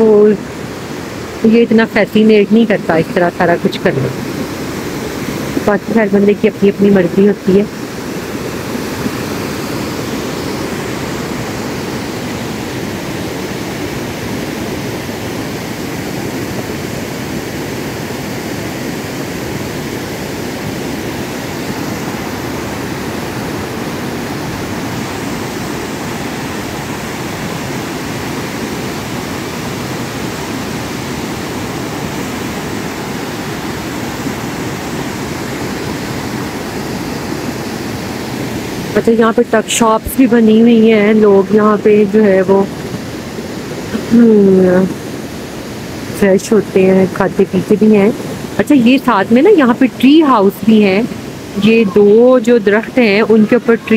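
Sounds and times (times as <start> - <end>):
river and waterfall rushing: 0.0 - 53.9.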